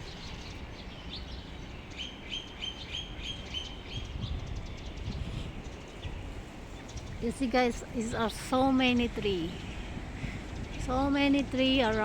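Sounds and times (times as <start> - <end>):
low wind rumble: 0.0 - 12.0
small birds chirping: 0.0 - 12.0.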